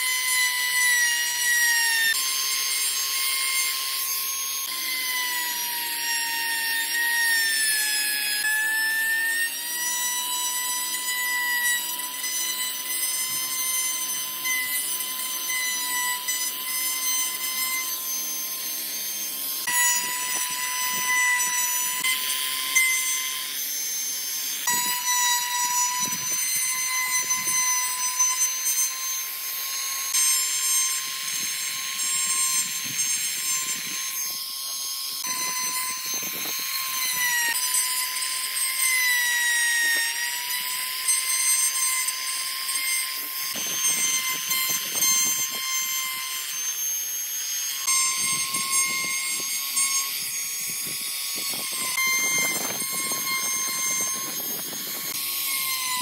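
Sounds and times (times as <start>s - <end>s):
router whining cutting wood: 0.0s - 56.0s.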